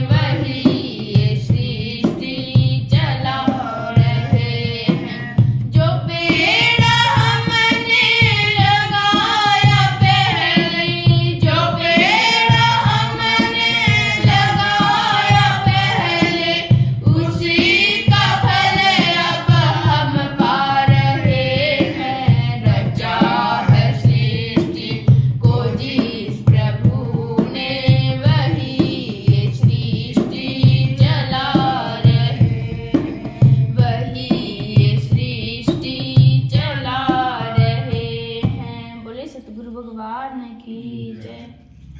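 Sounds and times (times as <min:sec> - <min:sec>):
steady drum beat: 0:00.0 - 0:38.9
woman singing devotional song: 0:00.0 - 0:41.6.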